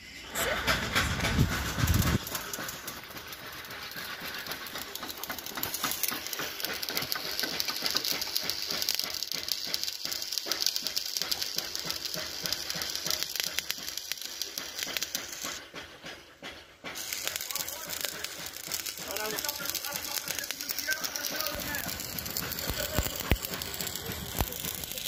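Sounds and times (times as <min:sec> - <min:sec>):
welding arc crackling and hissing: 0:00.0 - 0:15.8, 0:16.9 - 0:25.0.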